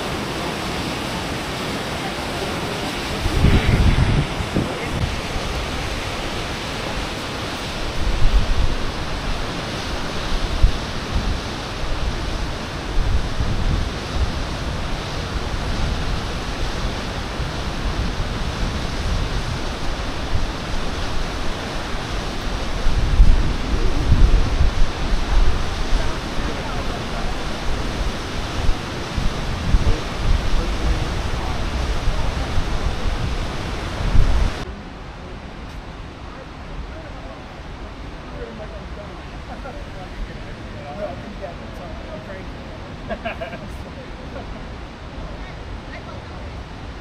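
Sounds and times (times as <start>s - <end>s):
wind on microphone: 0.0s - 47.0s.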